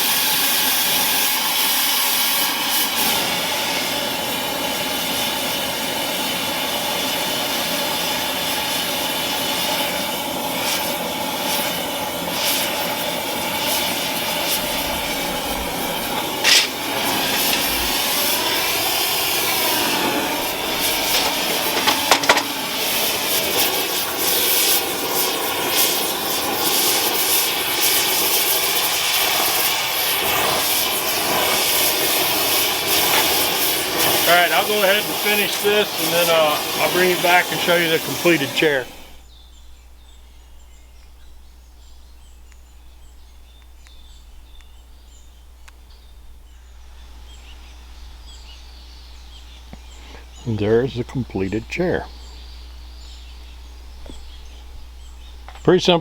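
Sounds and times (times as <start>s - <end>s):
torch burning with rushing hiss: 0.0s - 39.3s, 46.8s - 56.0s.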